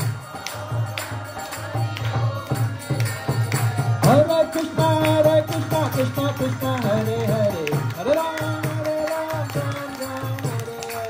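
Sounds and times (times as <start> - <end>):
double-headed drum beat: 0.0 - 10.7
hand clapping: 0.0 - 11.0.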